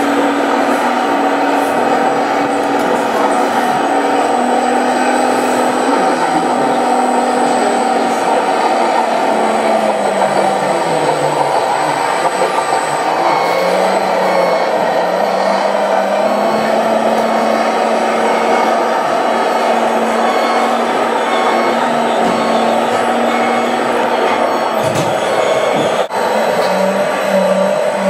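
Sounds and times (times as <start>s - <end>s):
toy bulldozer diesel engine sound: 0.0s - 28.0s.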